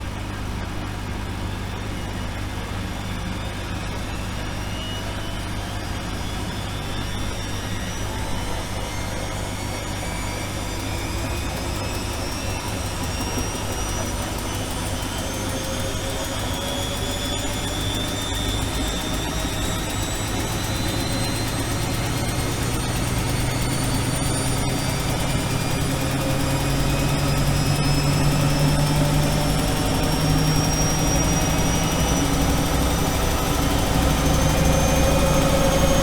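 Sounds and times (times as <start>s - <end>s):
washing machine running: 0.0s - 36.0s
rising whine: 0.1s - 36.0s.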